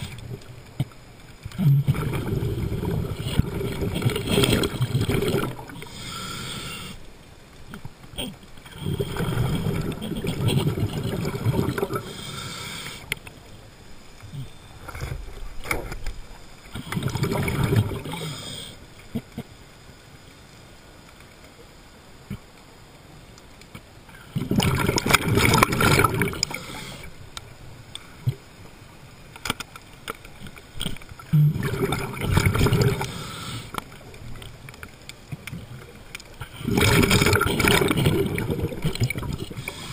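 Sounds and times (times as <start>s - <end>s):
underwater bubbles gurgling: 0.0s - 19.5s, 24.1s - 28.6s, 30.1s - 39.9s.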